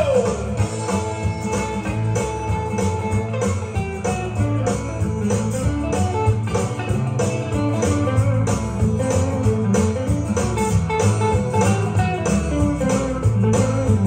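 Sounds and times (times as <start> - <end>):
instrumental track with guitar and beat: 0.0 - 14.0.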